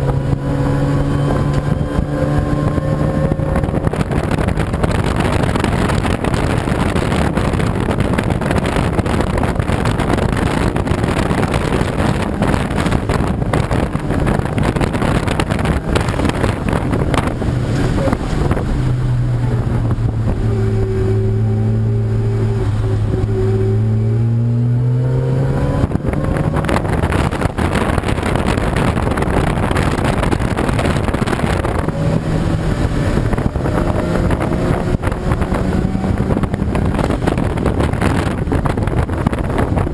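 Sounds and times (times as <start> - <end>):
car engine accelerating: 0.0 - 39.9
race car engines: 0.0 - 39.9
wind noise on microphone: 0.0 - 39.9.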